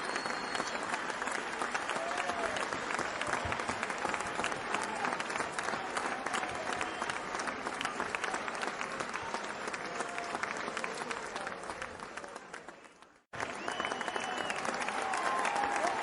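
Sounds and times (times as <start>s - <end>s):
crowd clapping: 0.0s - 16.0s.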